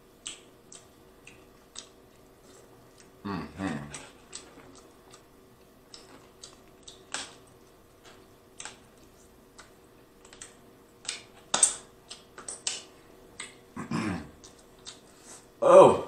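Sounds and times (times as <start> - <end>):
wet chewing smacks: 0.2 - 3.2, 3.8 - 13.6, 14.4 - 15.1.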